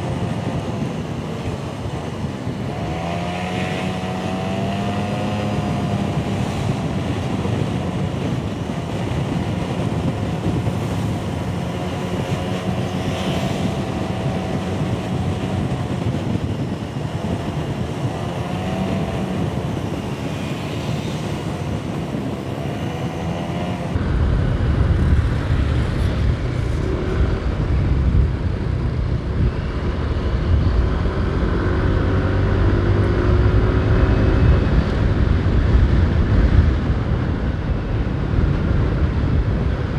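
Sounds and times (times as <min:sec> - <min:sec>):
motorcycle engine: 0:00.0 - 0:39.9
road and wind noise: 0:00.0 - 0:39.9.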